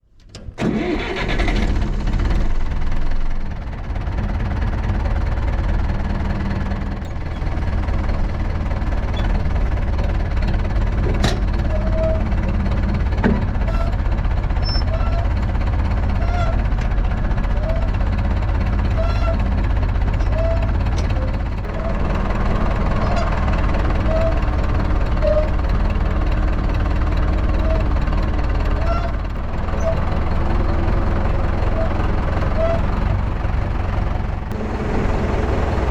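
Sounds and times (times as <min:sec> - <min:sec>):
tractor diesel engine chugging: 0:00.6 - 0:35.9.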